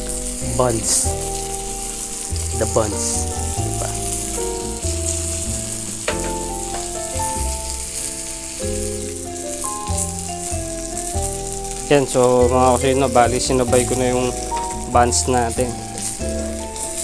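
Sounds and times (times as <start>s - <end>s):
background music of held notes: 0.0s - 17.0s
chicken frying in oil: 0.0s - 17.0s.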